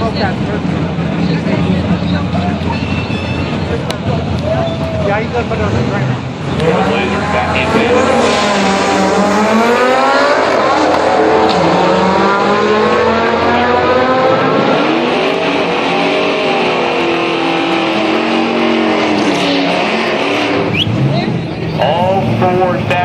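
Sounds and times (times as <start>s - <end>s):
cars accelerating hard: 0.0s - 23.0s.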